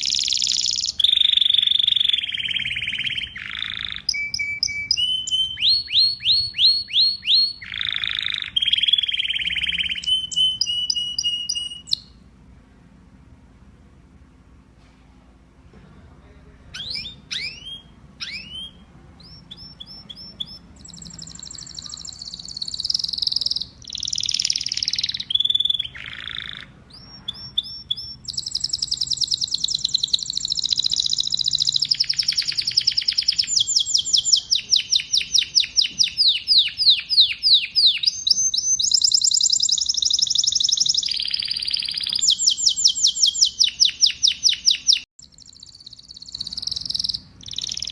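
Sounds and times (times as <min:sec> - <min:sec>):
canary singing trills: 0:00.0 - 0:12.3, 0:16.6 - 0:47.9.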